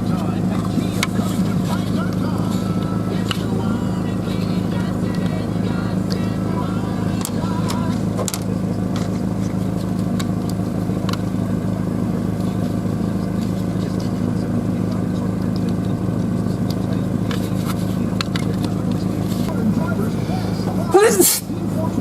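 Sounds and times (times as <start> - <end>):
pickup truck engine and road drone: 0.0 - 22.0.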